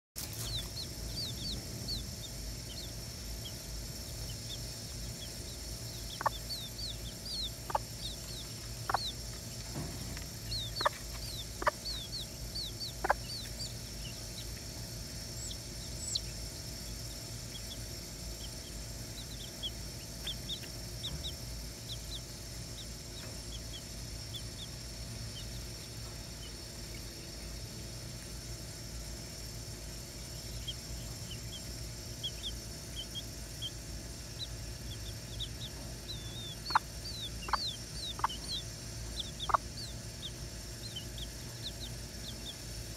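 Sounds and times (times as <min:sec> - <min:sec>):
chicks peeping: 0:00.2 - 0:42.9.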